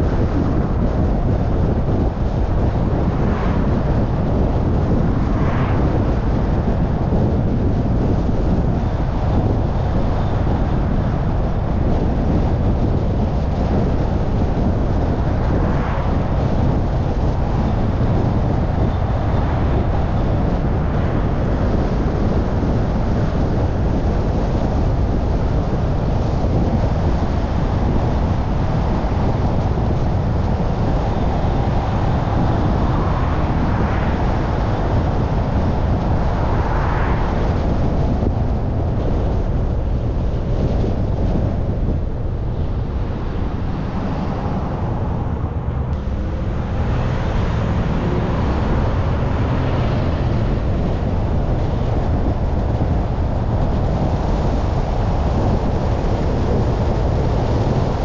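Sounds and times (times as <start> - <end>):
car tyre rumble: 0.0 - 58.0
wind on microphone: 0.0 - 58.0.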